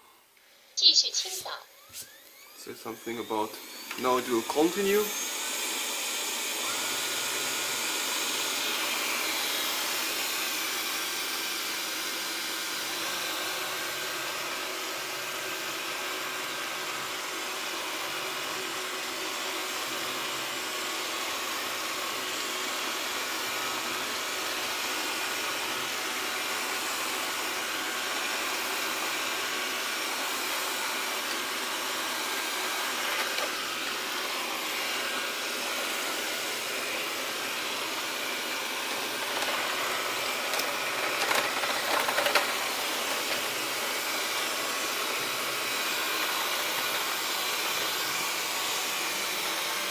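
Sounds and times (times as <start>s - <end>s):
robot vacuum cleaner whirring: 0.4s - 49.9s.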